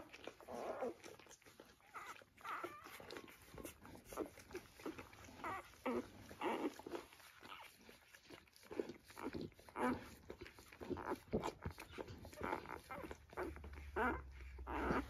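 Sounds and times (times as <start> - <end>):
puppies squeaking and whimpering: 0.0 - 15.0.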